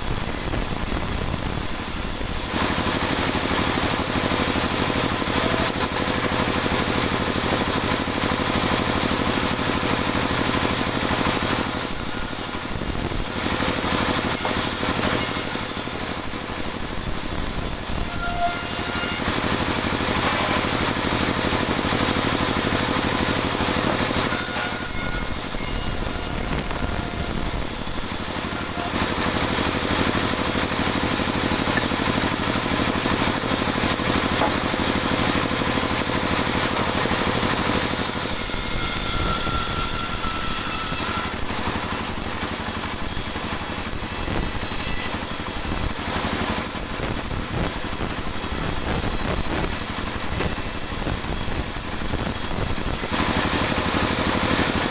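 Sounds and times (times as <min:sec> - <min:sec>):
band saw cutting wood: 0:00.0 - 0:54.9.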